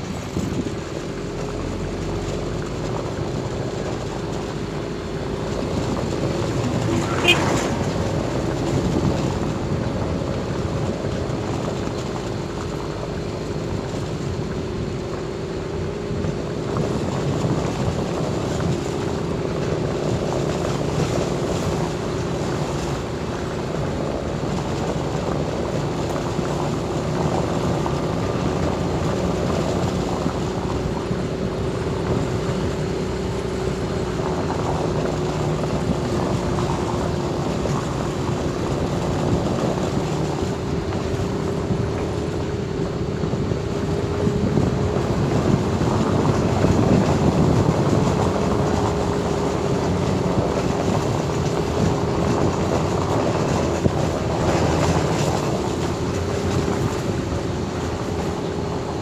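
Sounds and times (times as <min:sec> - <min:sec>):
car engine drone: 0:00.0 - 0:59.0
tyre and road noise: 0:00.0 - 0:59.0.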